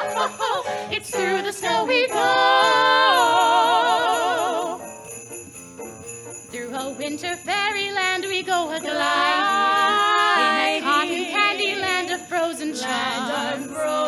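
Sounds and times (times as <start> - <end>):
women singing close harmony: 0.0 - 4.8, 6.6 - 14.0
sleigh bells jingling: 0.0 - 14.0.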